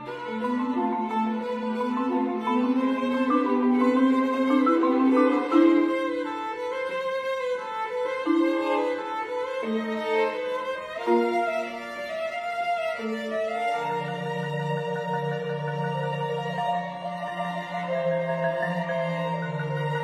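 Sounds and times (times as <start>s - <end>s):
cello bowed notes: 0.0s - 20.0s
violin bowed notes: 0.0s - 20.0s.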